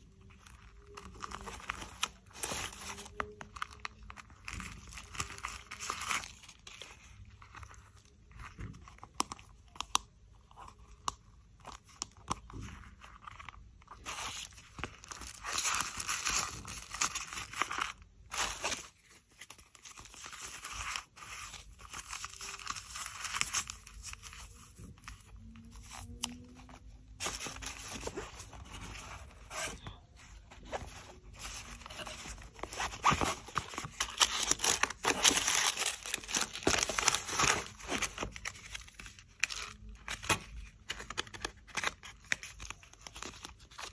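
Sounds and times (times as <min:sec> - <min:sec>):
packaging crinkling and rustling: 0:00.0 - 0:43.9.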